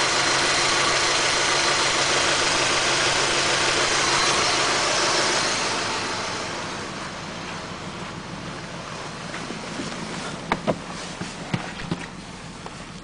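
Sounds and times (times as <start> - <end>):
car engine misfiring: 0.0 - 13.0.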